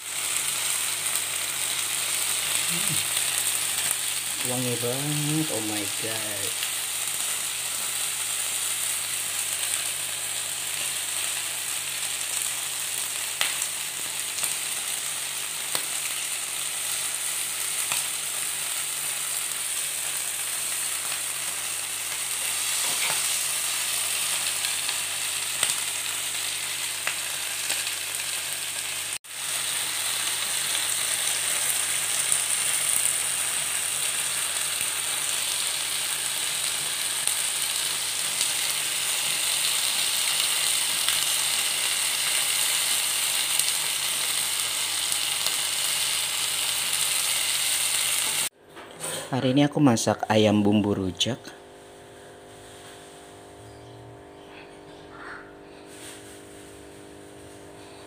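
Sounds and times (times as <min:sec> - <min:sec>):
chicken sizzling on a griddle: 0:00.0 - 0:48.5, 0:51.8 - 0:53.5, 0:54.6 - 0:58.0.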